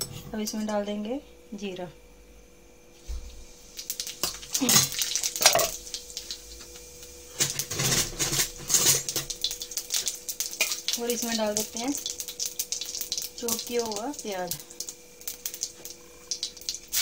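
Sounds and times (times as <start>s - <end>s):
seeds sizzling in hot oil: 3.0s - 17.0s.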